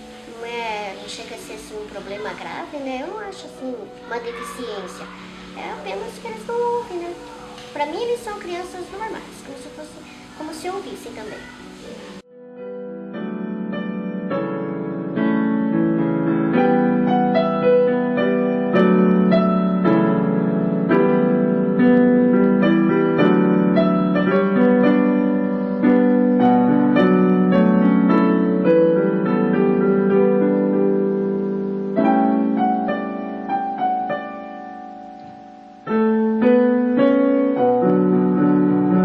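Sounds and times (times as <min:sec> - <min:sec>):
gentle piano melody: 0:00.0 - 0:39.0.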